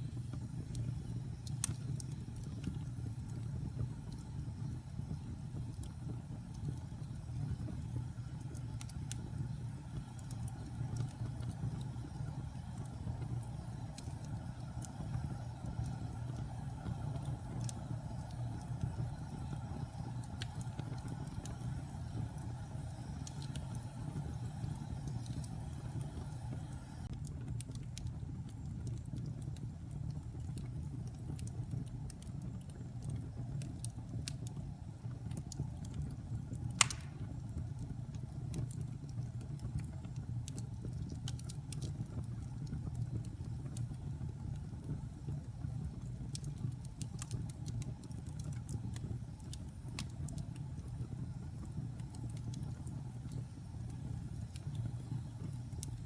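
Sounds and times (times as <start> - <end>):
fire crackling and popping: 0.0 - 56.0
fire rumbling in a fireplace: 0.0 - 56.0.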